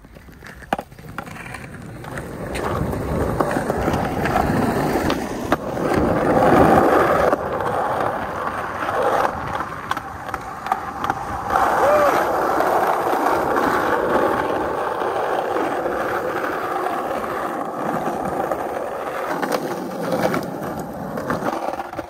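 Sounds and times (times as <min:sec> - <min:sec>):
skateboard wheels clicking over joints: 0:00.0 - 0:22.0
skateboard wheels rolling on concrete: 0:00.0 - 0:22.0.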